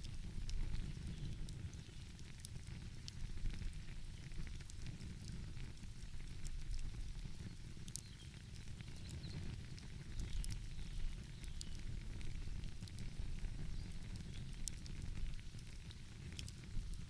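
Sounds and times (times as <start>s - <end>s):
sharp pops and snaps: 0.0s - 17.0s
wood fire crackling: 0.0s - 17.0s.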